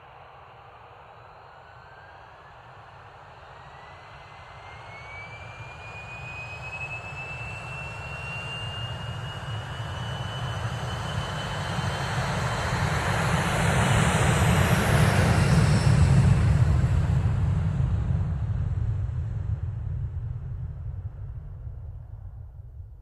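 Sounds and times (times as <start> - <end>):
jet engine whine rising: 0.6 - 22.5.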